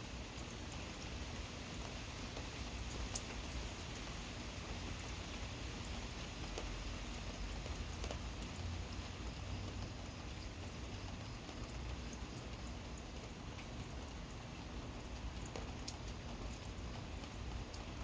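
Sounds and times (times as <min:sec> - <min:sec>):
gentle rain falling: 0:00.0 - 0:18.0
drips pattering on hard surfaces: 0:00.2 - 0:18.0.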